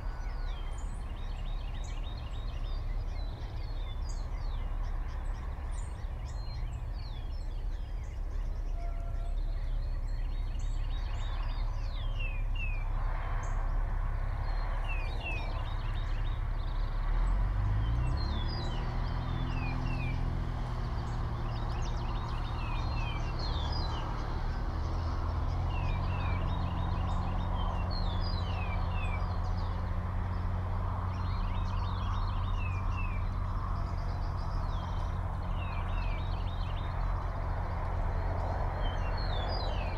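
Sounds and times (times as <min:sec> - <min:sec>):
low engine hum: 0:00.0 - 0:39.9
songbird singing: 0:00.0 - 0:39.9.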